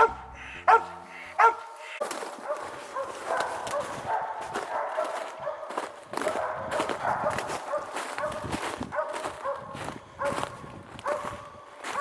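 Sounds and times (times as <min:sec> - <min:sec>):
distant dogs barking: 0:00.0 - 0:12.0
footsteps crunching through leaves: 0:01.6 - 0:12.0.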